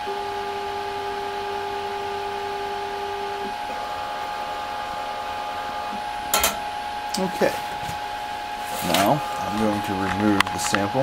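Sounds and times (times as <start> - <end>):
lab instrument humming and whining: 0.0 - 11.0.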